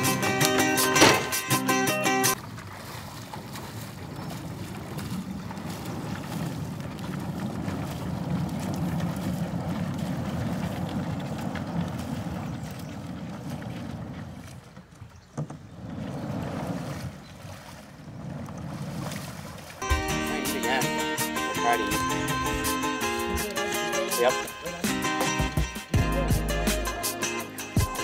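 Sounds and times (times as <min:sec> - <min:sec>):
shallow river water sloshing: 0:00.0 - 0:26.0.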